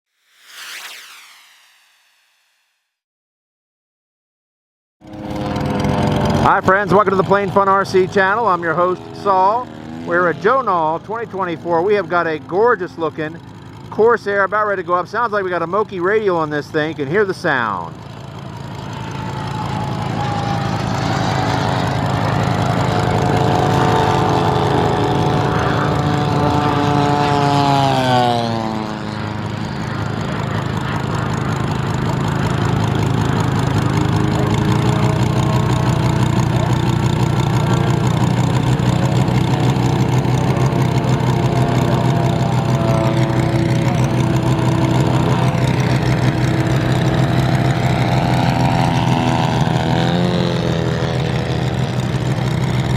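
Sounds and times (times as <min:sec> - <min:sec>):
model plane engine rumbling: 0:05.0 - 0:52.9.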